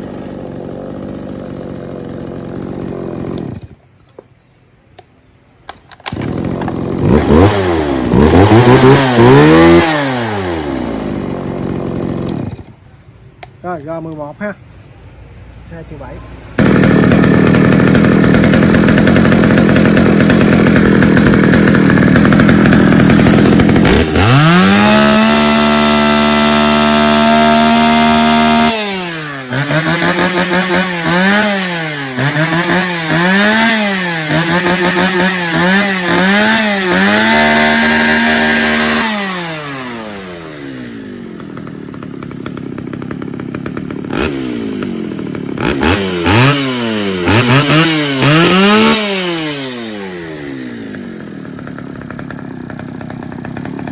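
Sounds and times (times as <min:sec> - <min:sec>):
small two-stroke engine revving: 0:00.0 - 0:03.8, 0:06.1 - 0:12.7, 0:16.6 - 0:53.9.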